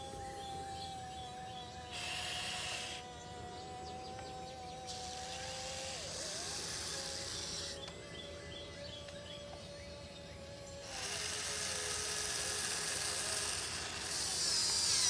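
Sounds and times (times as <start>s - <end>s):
small motors whining: 0.0s - 15.0s.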